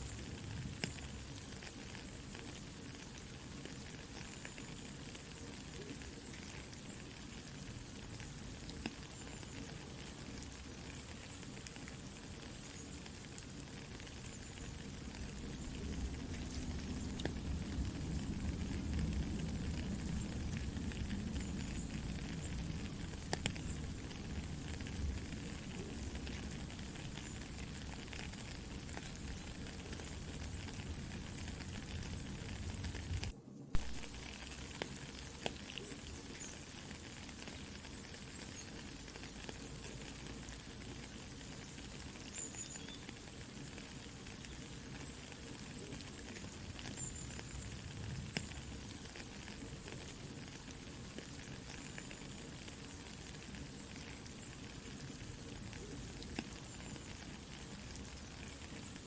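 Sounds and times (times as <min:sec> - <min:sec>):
campfire crackling and popping: 0:00.0 - 0:59.0
rain pattering: 0:00.0 - 0:59.0.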